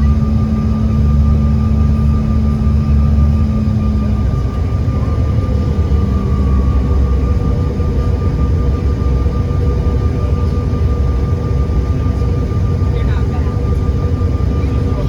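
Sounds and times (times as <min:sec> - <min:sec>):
jet engines rumbling in cabin: 0:00.0 - 0:15.0
low hum: 0:00.0 - 0:15.0.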